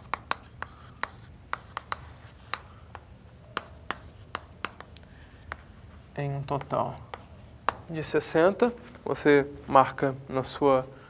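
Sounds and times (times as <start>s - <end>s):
chalk tapping and scratching: 0.0s - 8.9s.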